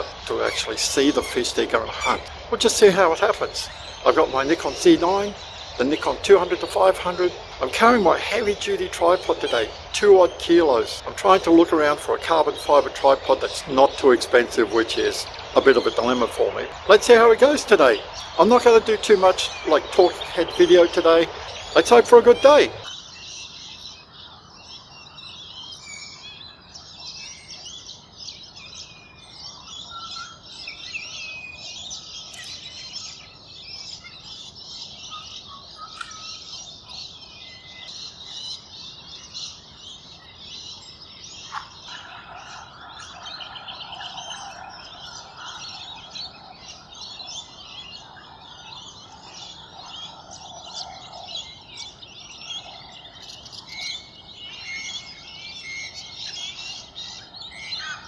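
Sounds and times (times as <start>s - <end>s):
low drawn-out bird calling: 0.0s - 27.9s, 28.9s - 58.0s
birds chirping and twittering: 0.0s - 58.0s.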